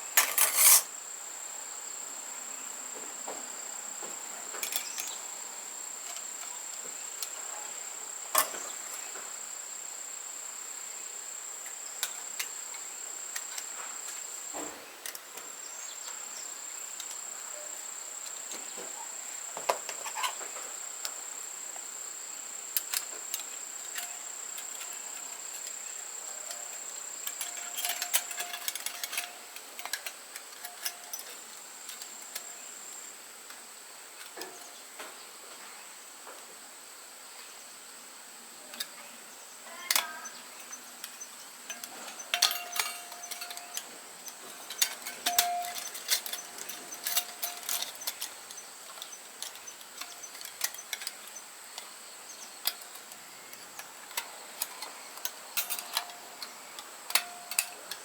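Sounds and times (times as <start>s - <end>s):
high-pitched insect trill: 4.5s - 33.2s, 38.8s - 58.0s.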